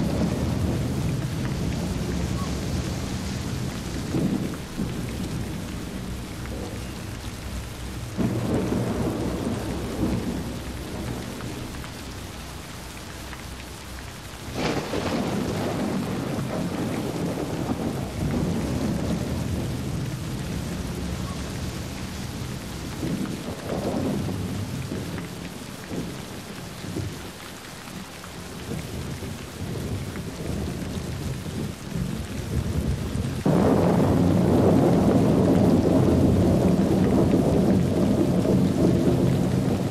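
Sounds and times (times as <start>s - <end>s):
rolling thunder: 0.0s - 12.9s, 14.3s - 27.2s, 28.6s - 39.9s
steady rain: 0.0s - 39.9s.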